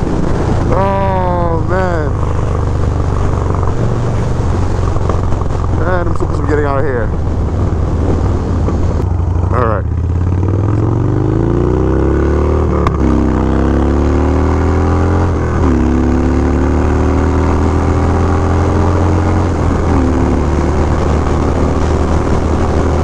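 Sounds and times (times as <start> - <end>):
motorcycle accelerating hard: 0.0 - 23.0.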